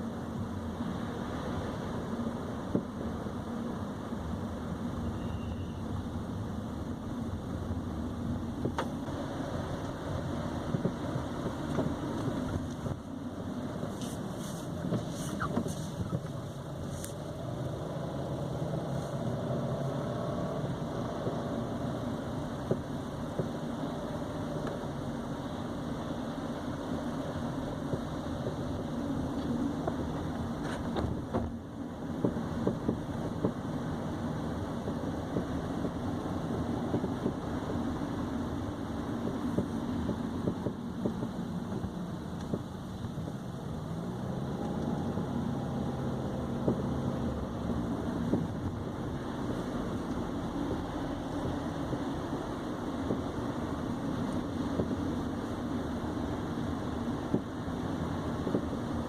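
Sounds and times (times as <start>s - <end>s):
car road noise: 0.0s - 59.0s
suspension knocking and clunking: 2.5s - 3.6s, 6.6s - 26.0s, 26.6s - 59.0s.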